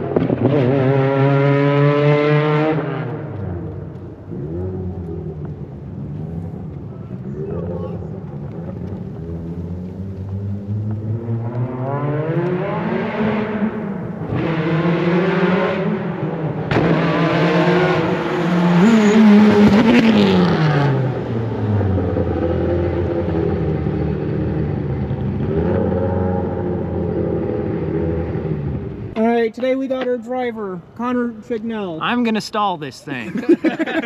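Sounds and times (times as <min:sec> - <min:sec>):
race car engine accelerating: 0:00.0 - 0:29.1.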